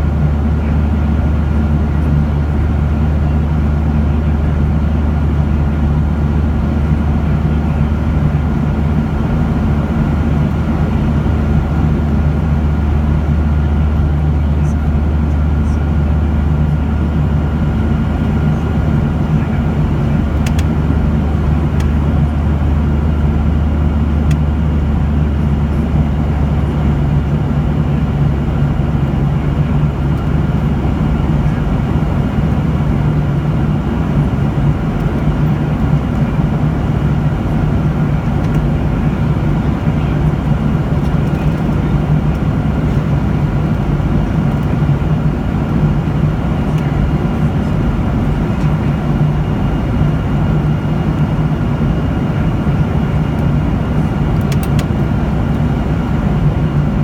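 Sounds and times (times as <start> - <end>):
faint constant hum: 0.0 - 57.0
jet engine and airflow rush: 0.0 - 57.0.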